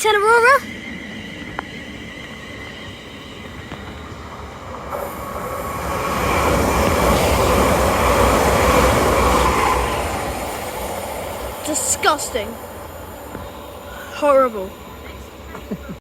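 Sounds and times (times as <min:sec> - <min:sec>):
train passing through station: 0:00.0 - 0:16.0.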